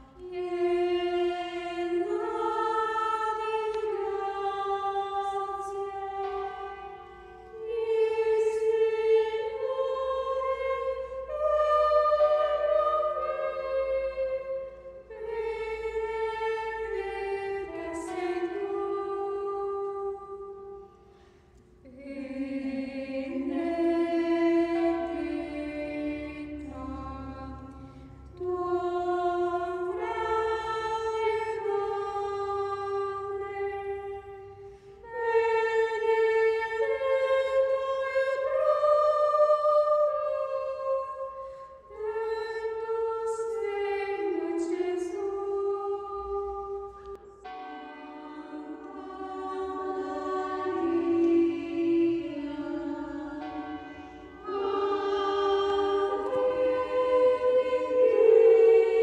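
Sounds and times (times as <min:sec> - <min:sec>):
women singing a slow hymn: 0:00.0 - 0:59.0.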